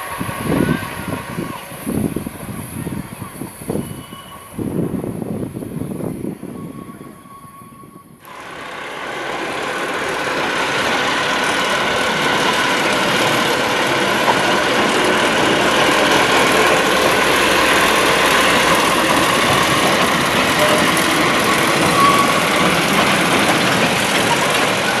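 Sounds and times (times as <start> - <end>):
train running: 0.0 - 25.0.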